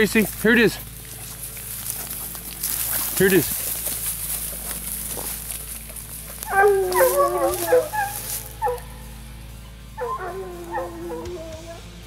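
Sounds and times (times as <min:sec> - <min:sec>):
hounds baying: 0:00.3 - 0:12.0.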